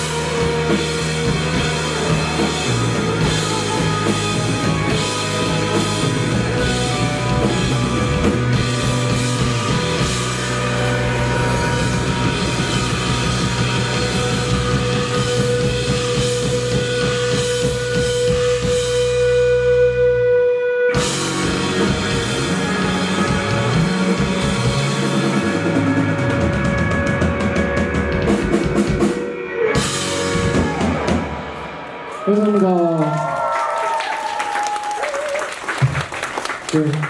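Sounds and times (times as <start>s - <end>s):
live rock band playing: 0.0s - 32.4s.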